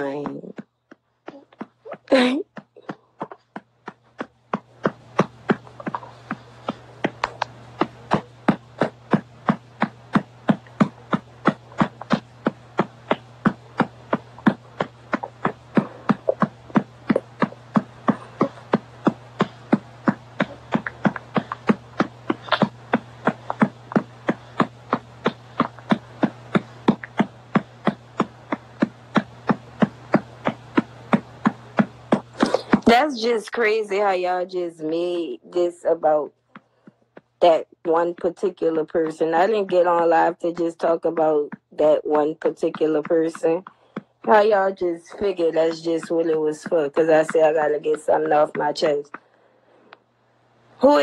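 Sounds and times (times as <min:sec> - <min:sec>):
hand patting rhythmically: 0:00.0 - 0:50.0
steady low hum: 0:00.0 - 0:51.0.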